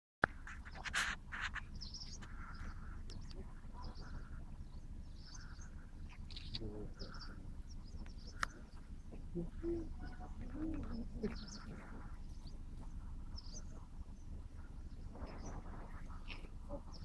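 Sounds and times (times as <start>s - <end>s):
birds calling: 0.2s - 17.0s
steady low rumble: 0.3s - 17.0s.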